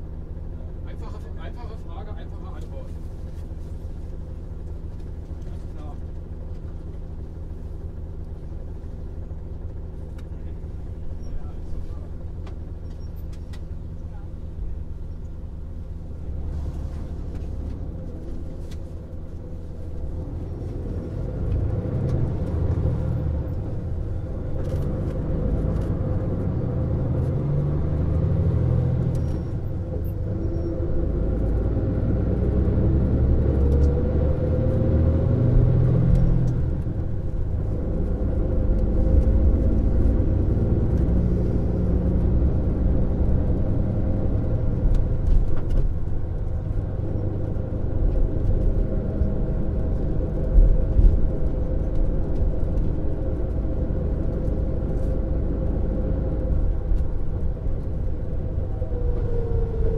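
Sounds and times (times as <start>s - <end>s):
coach engine rumble: 0.0s - 59.9s.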